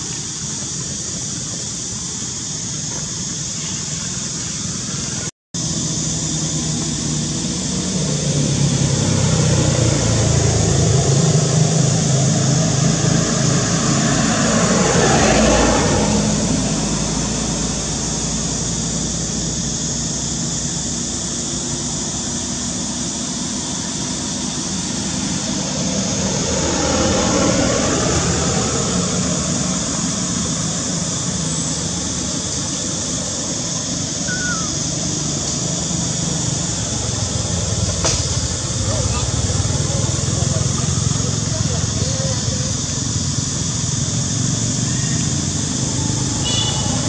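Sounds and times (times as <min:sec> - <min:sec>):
high hiss: 0:00.0 - 0:47.0.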